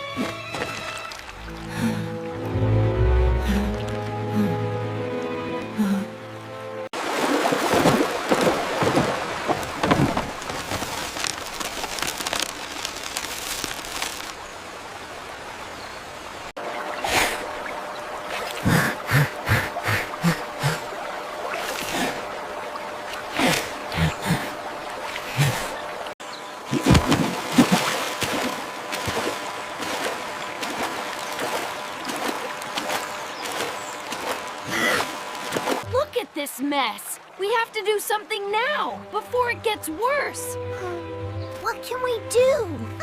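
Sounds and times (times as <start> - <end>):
running water rushing: 0.0 - 40.2.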